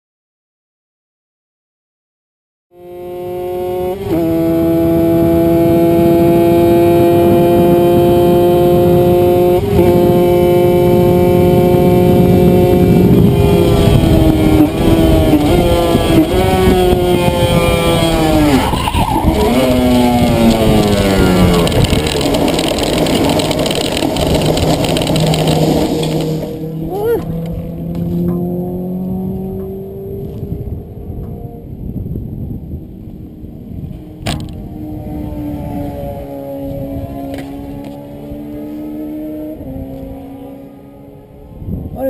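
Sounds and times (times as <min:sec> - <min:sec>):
motorcycle engine at full throttle: 0:02.7 - 0:42.0
wind noise: 0:03.3 - 0:42.0.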